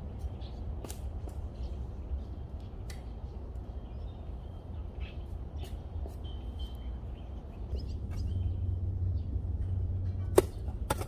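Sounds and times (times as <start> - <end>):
bird chirping: 0.0 - 9.6
steady low rumble: 0.0 - 11.0.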